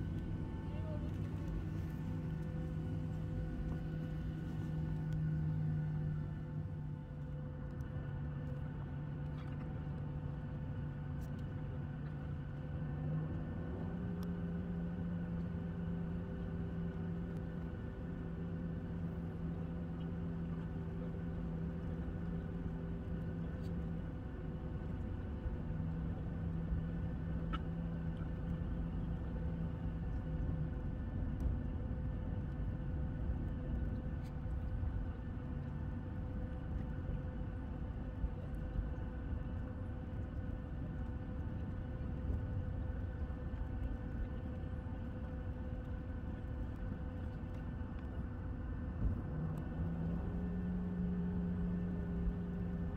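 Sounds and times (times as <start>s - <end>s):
aircraft engines rumbling: 0.0s - 52.9s
steady hum tones: 0.0s - 52.9s.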